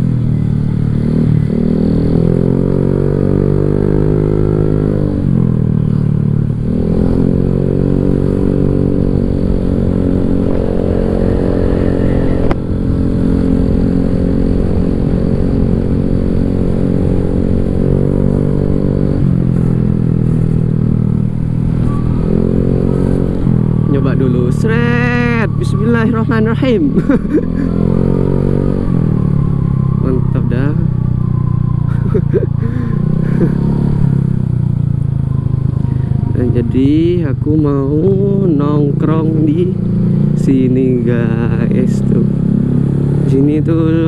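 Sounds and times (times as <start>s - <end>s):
scooter engine exhaust note: 0.0s - 44.0s.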